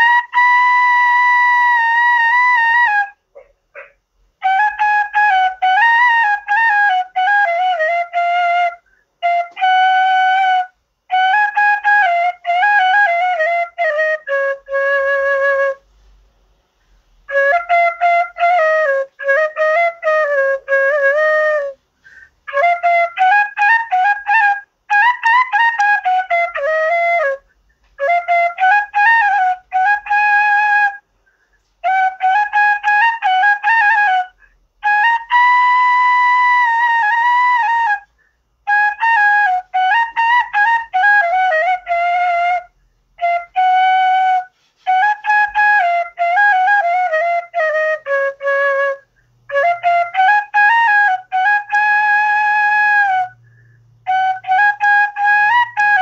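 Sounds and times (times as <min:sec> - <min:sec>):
instrumental melody: 0:00.0 - 0:56.0.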